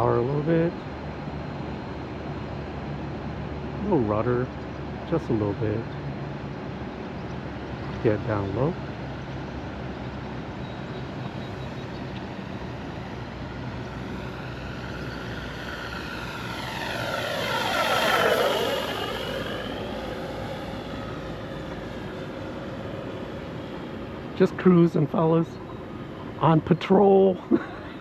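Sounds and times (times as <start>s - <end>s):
model airplane flying past: 0.0s - 28.0s.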